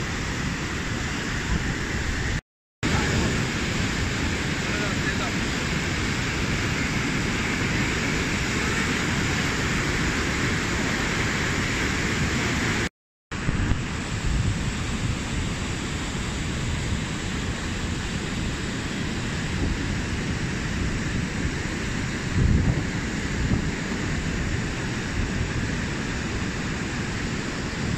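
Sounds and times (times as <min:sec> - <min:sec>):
whitewater rushing over boulders: 0:00.0 - 0:27.9.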